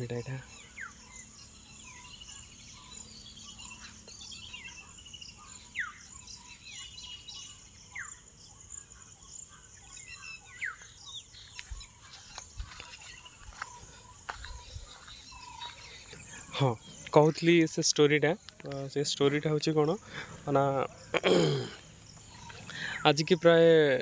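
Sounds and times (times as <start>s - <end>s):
faint insect chirring: 0.0s - 24.0s
high bird chirps: 0.0s - 24.0s.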